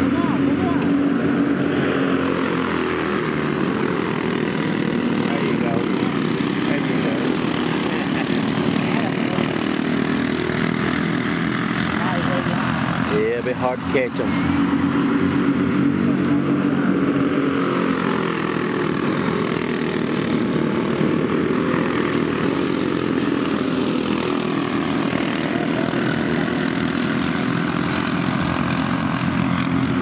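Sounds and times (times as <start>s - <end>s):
racing kart engines drone: 0.0s - 30.0s.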